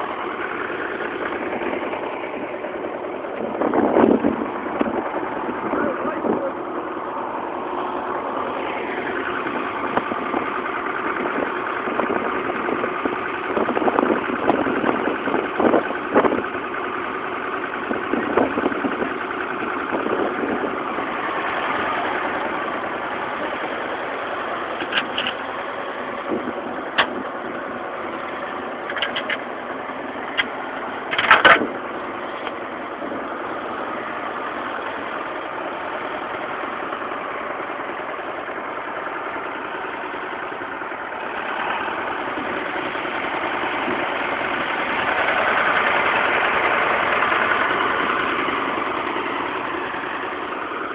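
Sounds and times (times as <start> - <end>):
sharp engine knocks and clatter: 0.0 - 50.9
tractor engine idling: 0.0 - 50.9.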